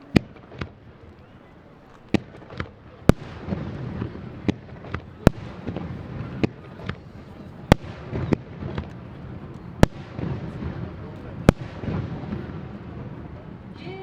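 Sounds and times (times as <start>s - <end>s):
fireworks bursting overhead: 0.0s - 14.0s.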